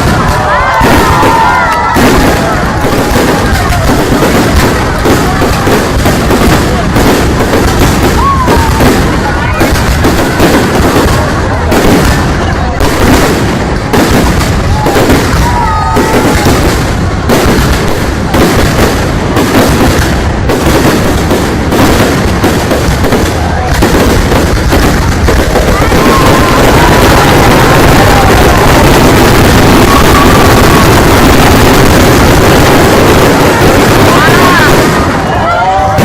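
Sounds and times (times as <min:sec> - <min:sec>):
fireworks bangs and booms: 0:00.0 - 0:36.0.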